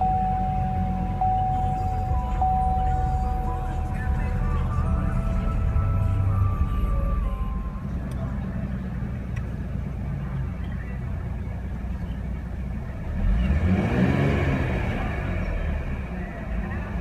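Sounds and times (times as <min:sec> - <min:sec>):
car engine idling: 0:00.0 - 0:17.0
car engine revving: 0:00.0 - 0:17.0.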